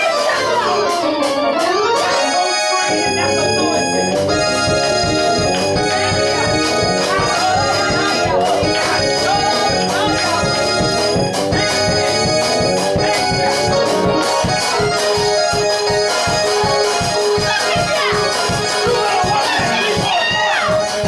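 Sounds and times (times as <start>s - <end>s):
electronic keyboard chords: 0.0s - 21.0s
fast steady beat: 0.0s - 21.0s
repeated keyboard note: 0.0s - 21.0s.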